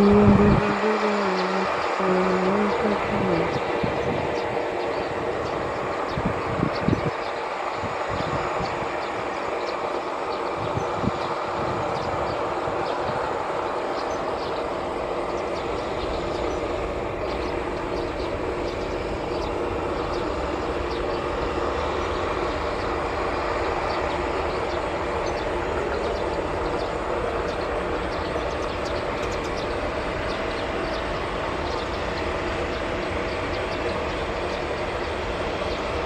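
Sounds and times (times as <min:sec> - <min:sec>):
jet engines rumbling and hissing: 0:00.0 - 0:36.0.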